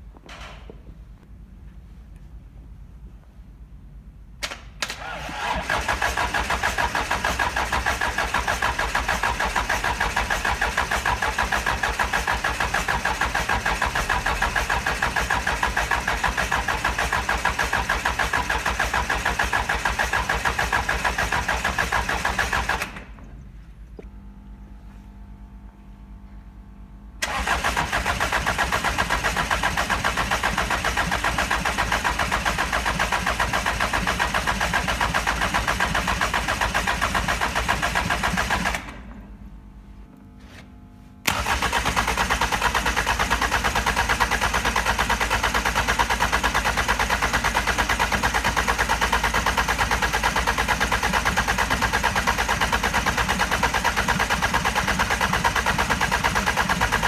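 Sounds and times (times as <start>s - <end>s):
starter motor cranking engine: 4.4s - 23.3s, 27.2s - 39.2s, 41.3s - 57.0s.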